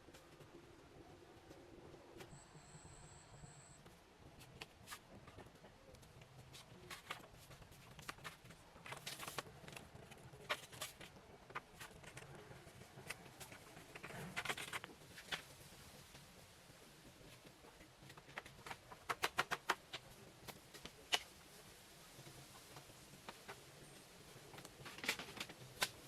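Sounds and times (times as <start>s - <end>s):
light clicks and crackling rustles: 3.8s - 26.0s.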